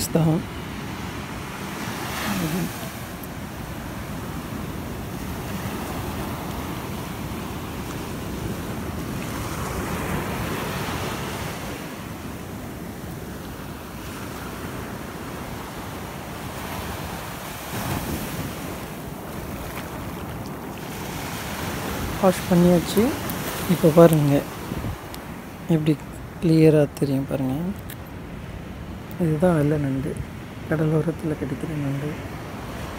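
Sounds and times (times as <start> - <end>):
small waves washing over sand: 0.0 - 32.9
wind rumbling on microphone: 0.0 - 32.9.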